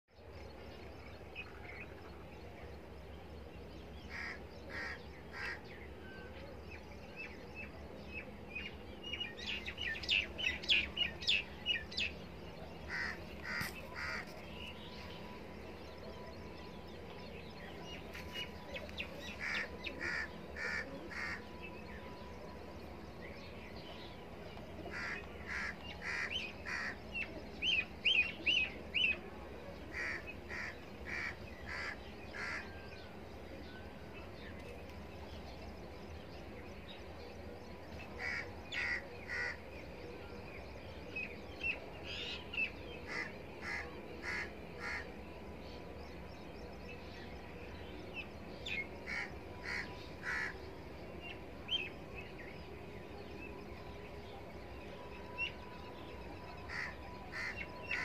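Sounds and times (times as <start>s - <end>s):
birds chirping: 0.1s - 58.0s
faint low background noise: 0.1s - 58.0s.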